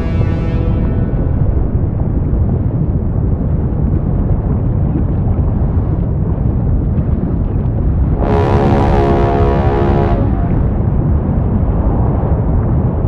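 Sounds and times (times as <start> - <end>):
volcanic eruption rumbling: 0.0 - 13.0.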